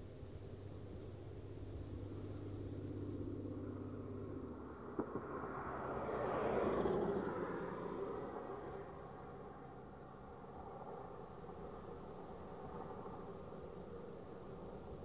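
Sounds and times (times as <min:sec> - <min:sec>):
low engine hum: 0:00.0 - 0:15.0
vehicle passing by: 0:00.1 - 0:15.0.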